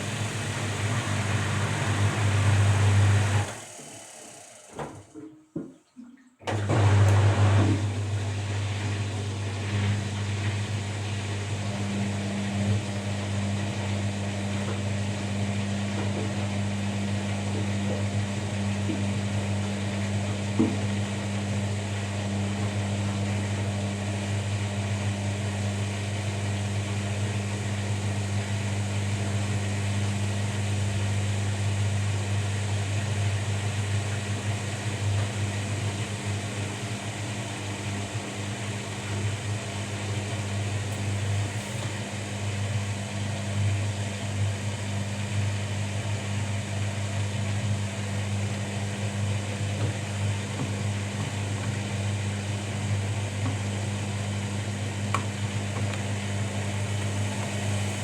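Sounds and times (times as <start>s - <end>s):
washing machine running: 0.0s - 5.7s, 6.4s - 58.0s.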